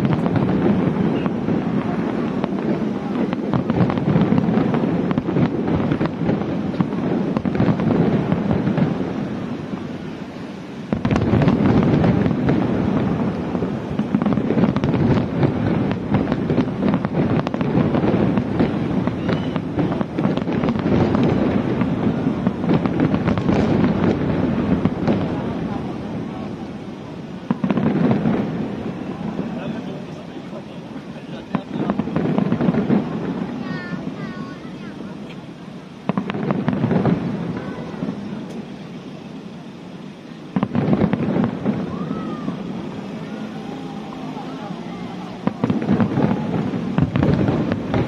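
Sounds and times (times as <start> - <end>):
fireworks booming and crackling: 0.0 - 48.0.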